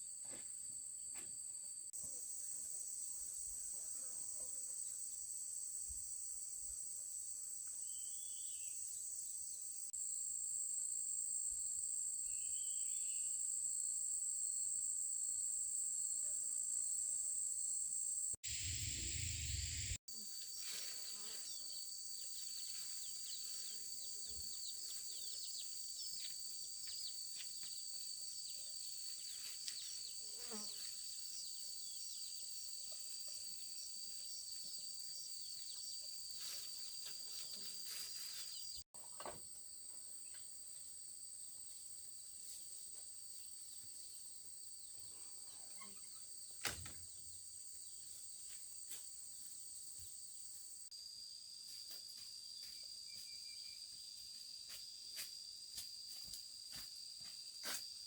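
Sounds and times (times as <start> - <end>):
insects chirring: 0.3 - 38.8, 39.6 - 58.0.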